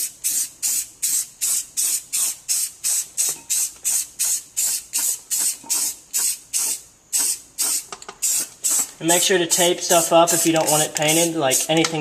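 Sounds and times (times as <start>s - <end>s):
spray paint can hissing: 0.0s - 12.0s.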